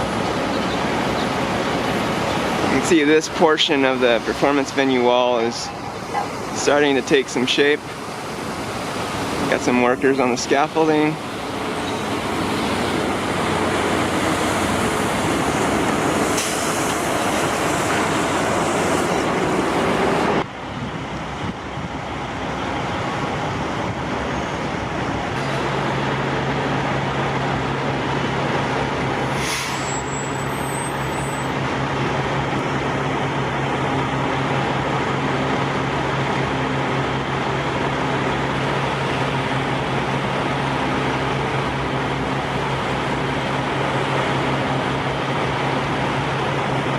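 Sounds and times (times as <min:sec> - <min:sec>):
road traffic: 0:00.0 - 0:46.9.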